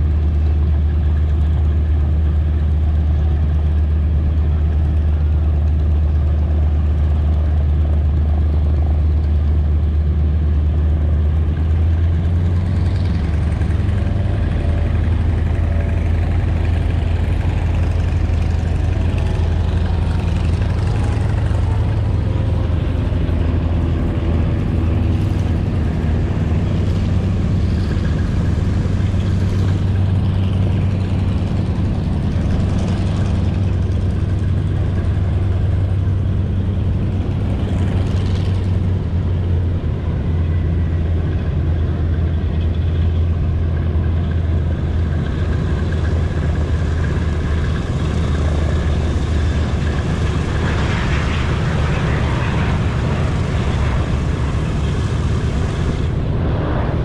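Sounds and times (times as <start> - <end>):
radial piston engines droning: 0.0 - 57.0.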